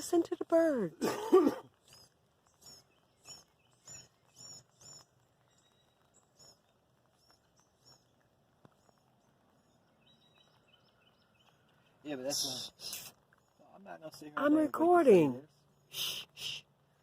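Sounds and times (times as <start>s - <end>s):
faint songbird chirping: 0.0s - 17.0s.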